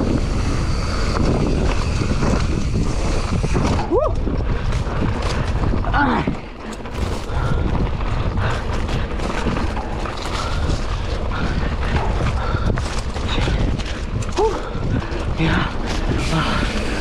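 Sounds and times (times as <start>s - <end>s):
bumps and rattles from riding: 0.0s - 17.0s
wind rushing over microphone: 0.0s - 17.0s.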